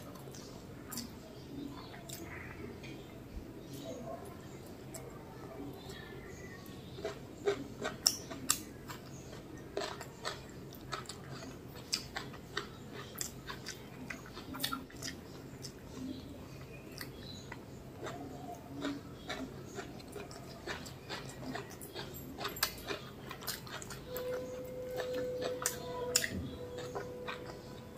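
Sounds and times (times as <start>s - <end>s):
close chewing: 0.0s - 27.9s.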